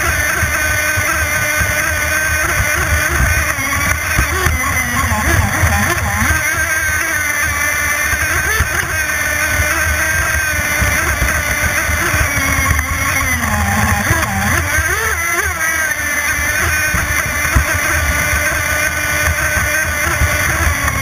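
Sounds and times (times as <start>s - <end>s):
model boat engine whining: 0.0s - 21.0s.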